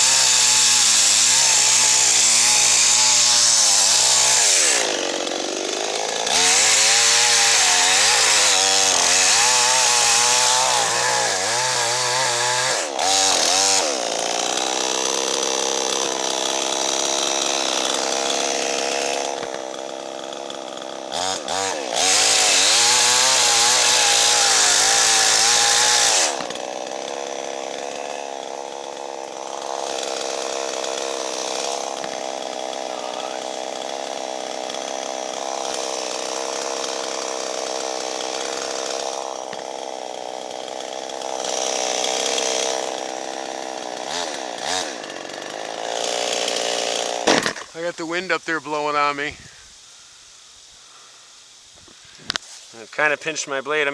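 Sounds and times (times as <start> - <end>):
chainsaw cutting wood: 0.0 - 49.7.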